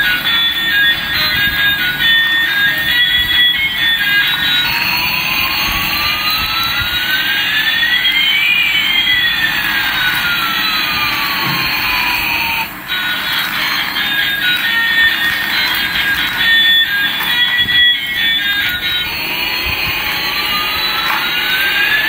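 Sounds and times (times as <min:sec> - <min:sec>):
falling whine: 0:00.0 - 0:22.0
rising whine: 0:00.0 - 0:22.0.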